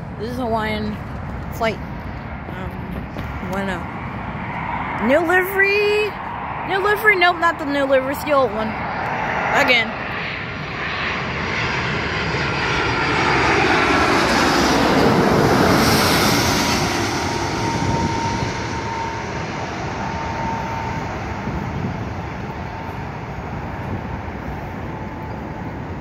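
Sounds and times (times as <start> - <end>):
jet airliner flying past: 0.0 - 26.0
jet engine whine: 0.0 - 26.0.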